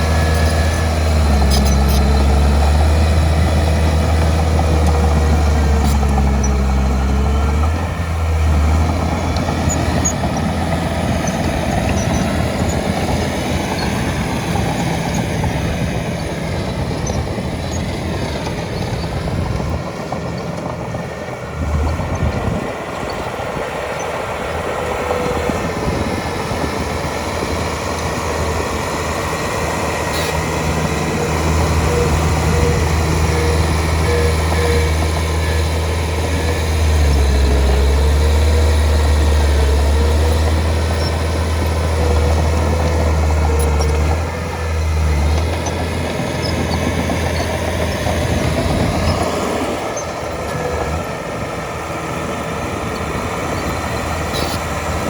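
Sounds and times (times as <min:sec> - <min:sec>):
heavy diesel engine humming: 0:00.0 - 0:55.0.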